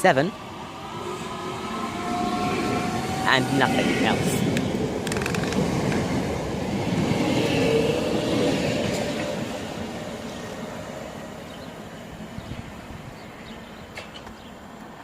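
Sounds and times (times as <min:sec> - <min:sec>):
train wheels rumbling: 0:00.7 - 0:13.3.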